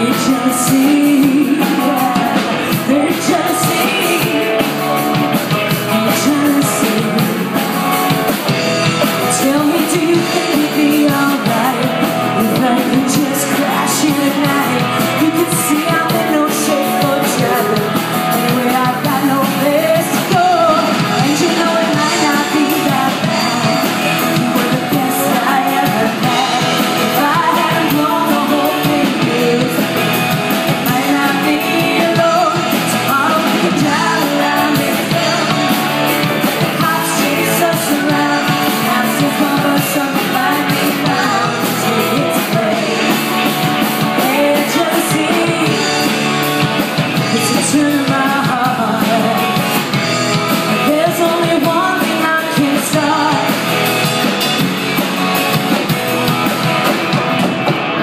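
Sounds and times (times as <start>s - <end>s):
lead vocal singing: 0.0s - 54.6s
rock band playing: 0.0s - 58.0s.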